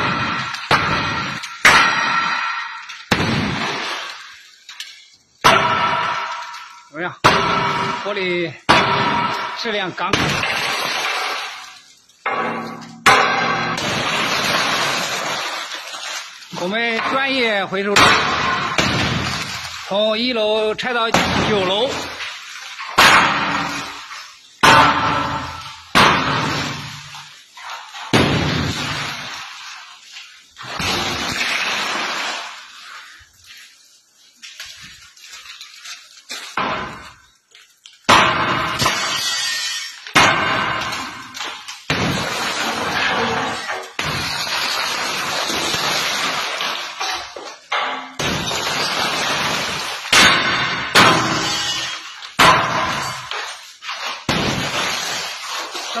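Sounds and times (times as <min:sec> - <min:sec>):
glass panels shattering: 0:00.0 - 0:33.8, 0:34.4 - 0:37.4, 0:38.0 - 0:56.0
falling glass fragments: 0:00.0 - 0:56.0.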